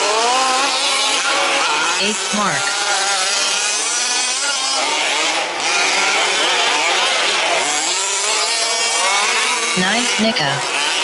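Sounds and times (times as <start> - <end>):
rc truck engines revving: 0.0 - 11.0.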